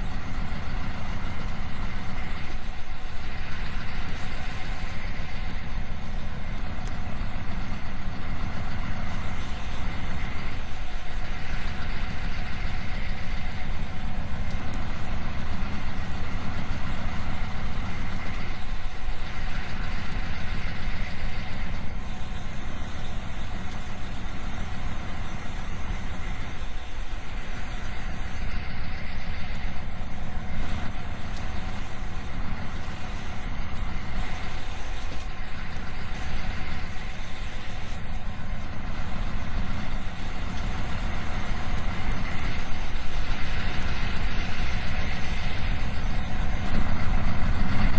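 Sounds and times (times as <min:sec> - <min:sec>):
road noise: 0:00.0 - 0:47.9
truck diesel engine: 0:00.0 - 0:47.9.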